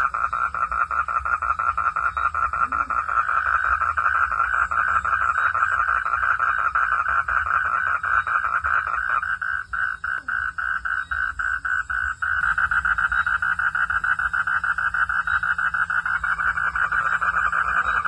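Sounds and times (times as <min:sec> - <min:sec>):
frogs calling in pulsed chorus: 0:00.0 - 0:18.0.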